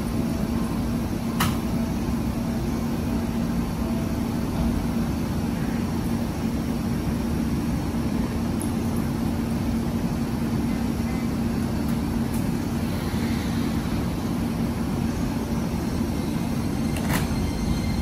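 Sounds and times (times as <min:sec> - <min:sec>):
train equipment low hum: 0:00.0 - 0:18.0.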